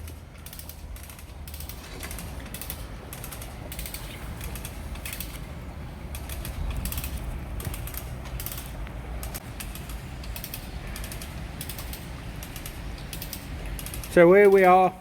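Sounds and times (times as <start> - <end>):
winch ratchet clicking: 0.0 - 5.4, 6.1 - 14.6.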